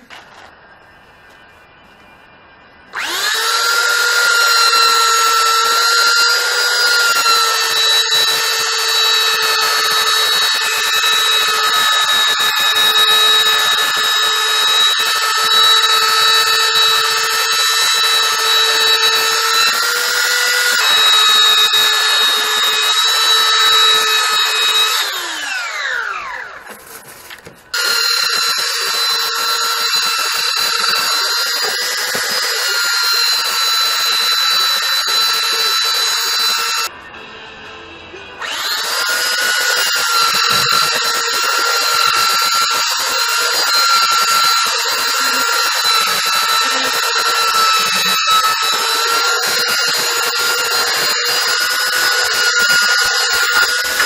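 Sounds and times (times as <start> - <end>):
power tool motor whining: 2.9 - 36.9, 38.4 - 54.0.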